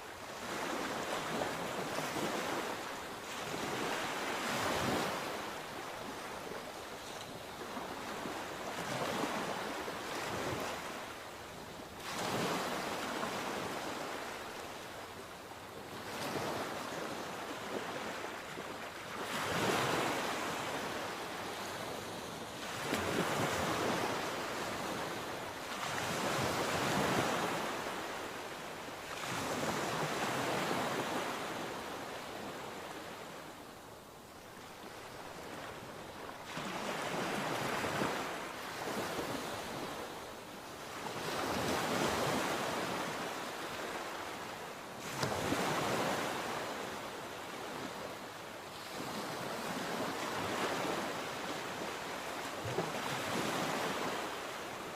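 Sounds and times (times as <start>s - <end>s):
sea waves breaking on shore: 0.0s - 54.9s.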